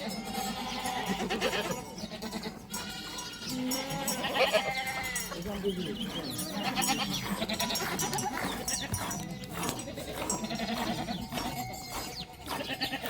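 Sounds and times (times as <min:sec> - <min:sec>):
sheep and goats bleating: 0:00.0 - 0:13.0.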